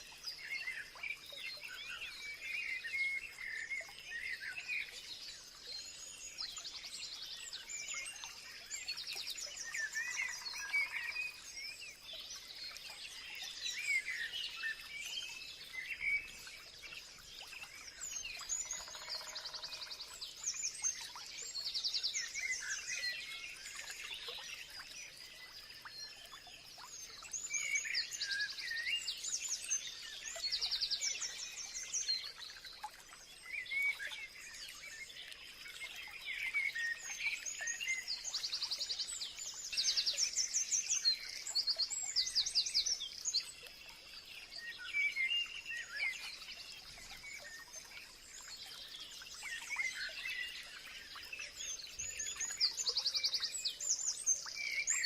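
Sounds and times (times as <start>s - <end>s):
wild birds singing: 0.0s - 55.0s.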